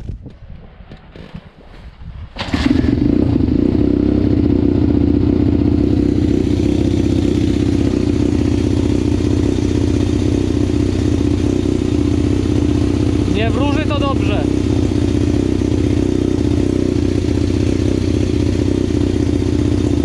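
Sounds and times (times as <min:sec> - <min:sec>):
motorbike engine starting and running: 0:02.4 - 0:20.0.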